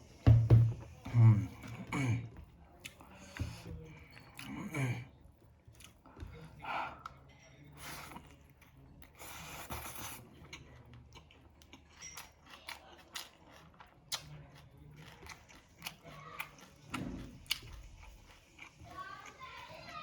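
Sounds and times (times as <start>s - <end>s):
chewing crispy fried fish: 1.2s - 20.0s.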